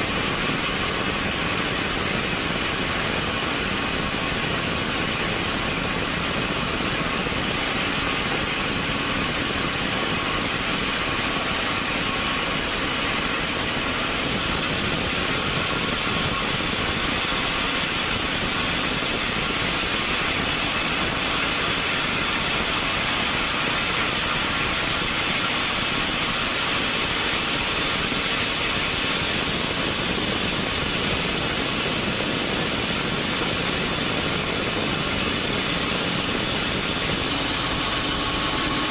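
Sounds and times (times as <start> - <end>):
woodworking machinery running: 0.0 - 38.9.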